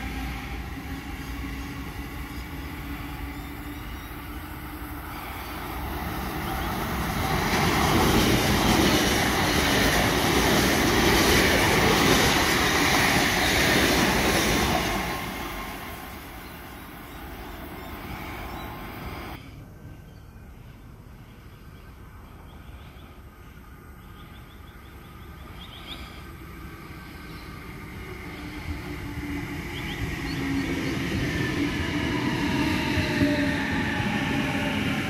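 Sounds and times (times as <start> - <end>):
electric train hum and whine: 0.0 - 35.0
electric train passing: 0.0 - 35.0.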